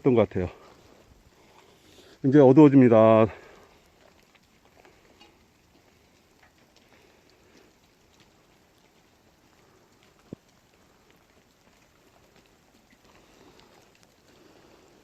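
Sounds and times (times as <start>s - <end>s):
faint patter of sleet: 0.0s - 15.0s.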